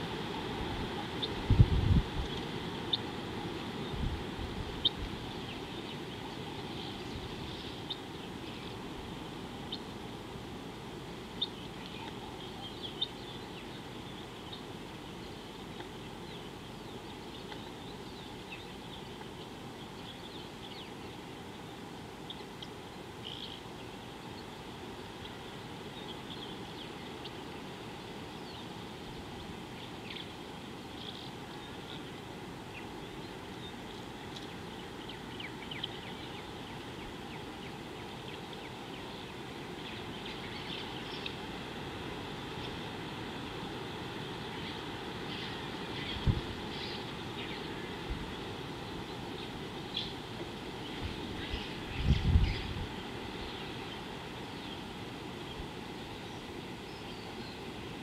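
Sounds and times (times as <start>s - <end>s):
birds chirping: 0.8s - 10.0s, 11.2s - 58.0s.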